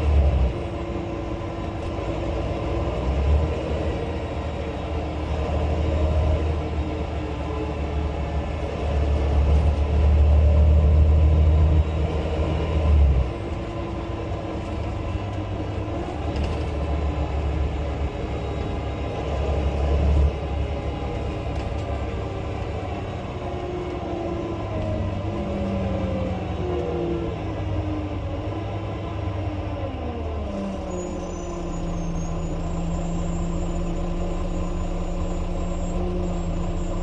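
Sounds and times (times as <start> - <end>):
bus diesel engine rumbling: 0.0 - 37.0.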